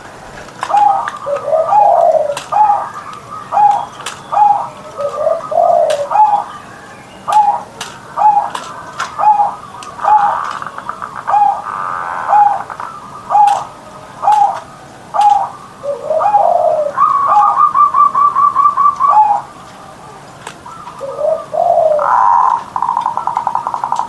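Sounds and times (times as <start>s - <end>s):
dove cooing: 0.3s - 24.0s.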